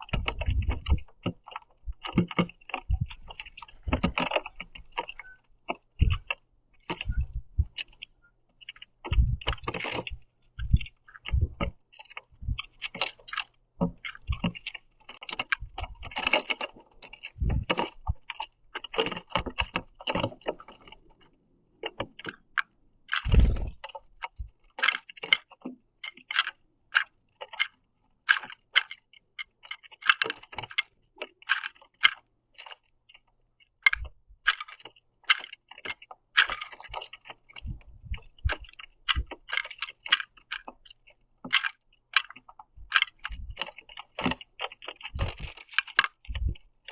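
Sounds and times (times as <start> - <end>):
birds cracking seeds: 0.0 - 46.9.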